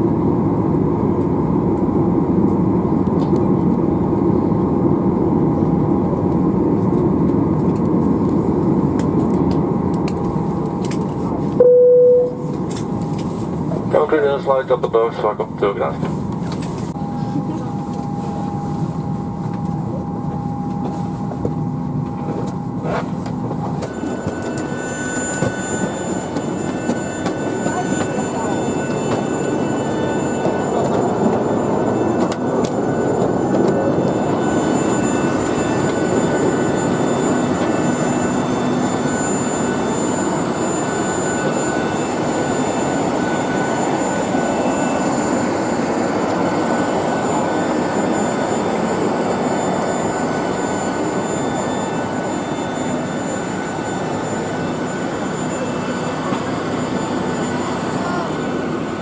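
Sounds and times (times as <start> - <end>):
jet turbine whine: 0.0 - 59.0.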